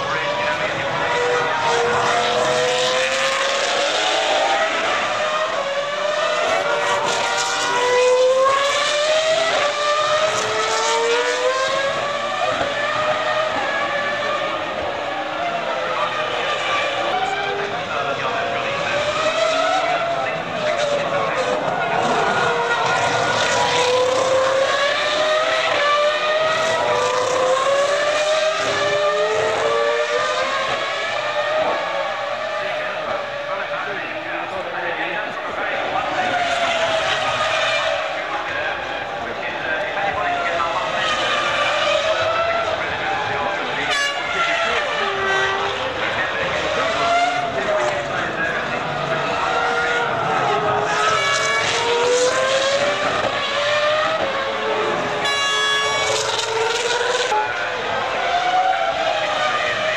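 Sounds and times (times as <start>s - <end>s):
racing car engines accelerating: 0.0s - 59.9s.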